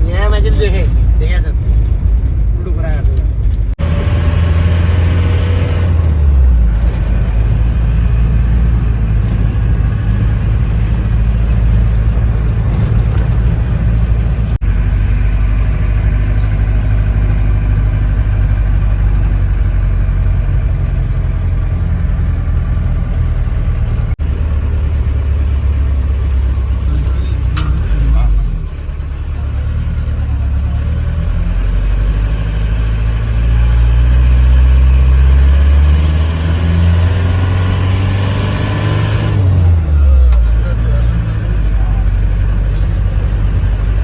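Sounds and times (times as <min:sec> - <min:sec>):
road noise: 0:00.0 - 0:44.0
vehicle engine rumble: 0:00.0 - 0:44.0.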